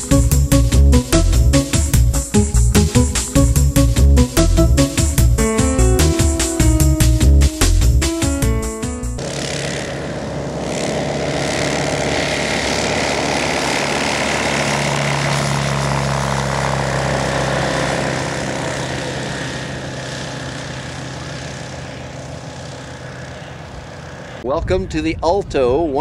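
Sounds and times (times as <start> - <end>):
propeller aircraft engine: 0.0 - 24.4.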